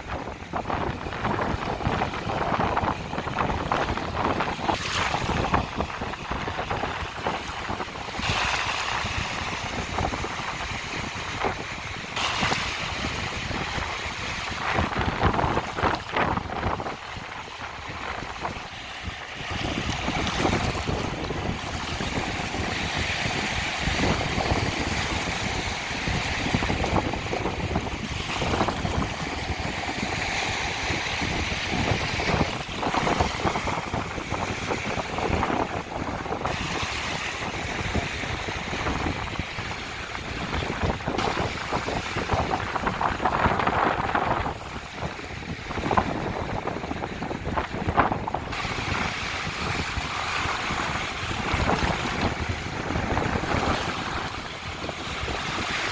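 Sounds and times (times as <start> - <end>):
small waves washing onto beach: 0.0 - 55.9
wind rumbling on microphone: 0.0 - 55.9.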